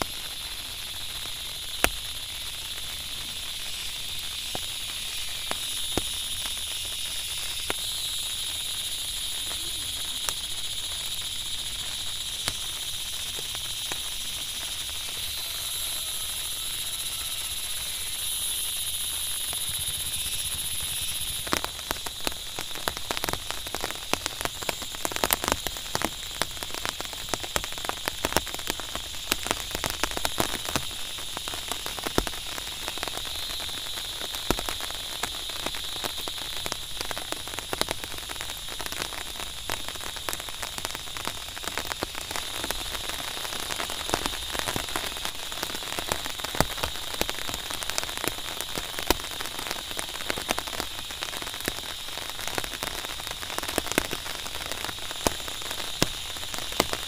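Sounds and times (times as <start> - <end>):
constant high whine: 0.0 - 57.0
crackling patter of raindrops: 0.0 - 57.0
steady rain hiss: 0.0 - 57.0.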